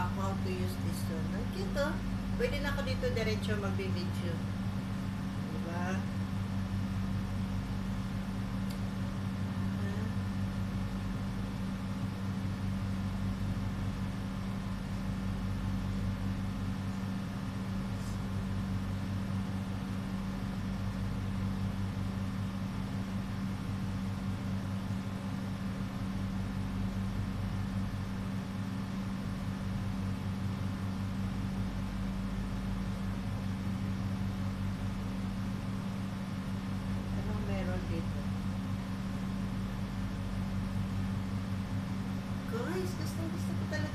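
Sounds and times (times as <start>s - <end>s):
low machine hum: 0.0s - 43.9s.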